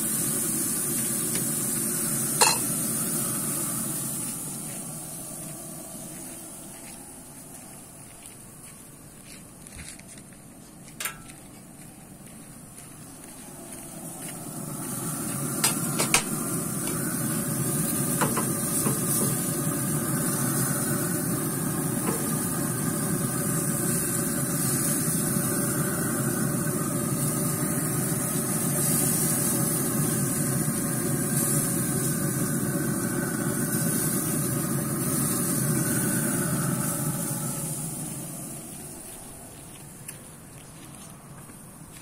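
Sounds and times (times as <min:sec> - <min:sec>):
grill fire and fan roar: 0:00.0 - 0:42.0.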